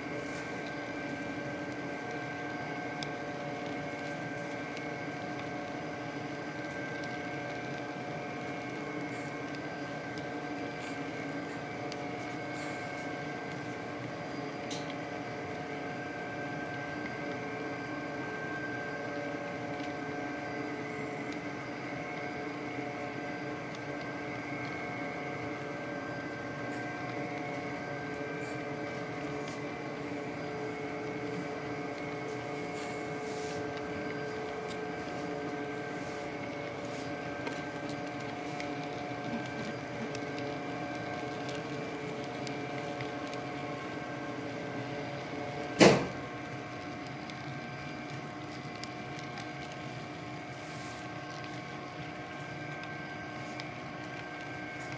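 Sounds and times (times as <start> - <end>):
model train cars humming: 0.0 - 54.9.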